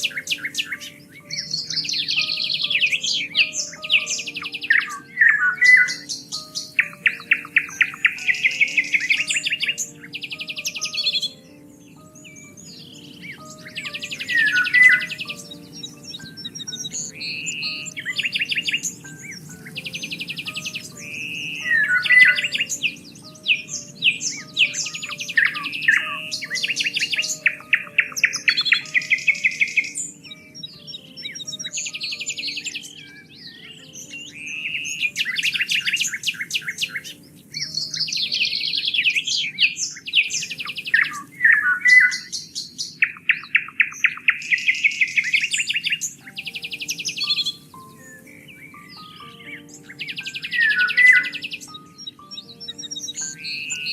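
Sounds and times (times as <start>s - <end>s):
songbirds singing and chirping: 0.0s - 53.9s.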